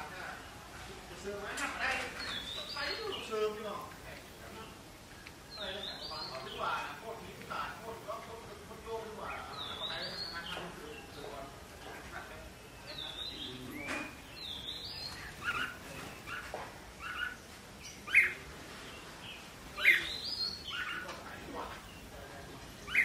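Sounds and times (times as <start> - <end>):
bird chirping calls: 0.0 - 23.0.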